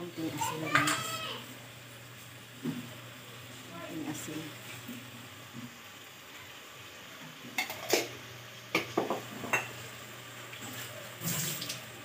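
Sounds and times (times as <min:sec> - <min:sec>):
curry simmering faint sizzle: 0:00.0 - 0:12.0.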